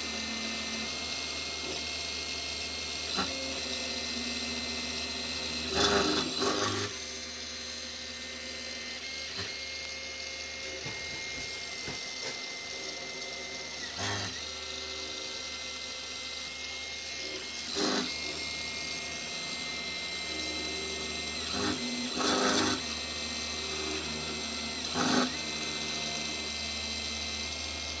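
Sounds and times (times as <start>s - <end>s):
milling machine whine and hum: 0.0s - 28.0s
cutter biting noisy bursts: 2.6s - 8.1s, 8.7s - 28.0s.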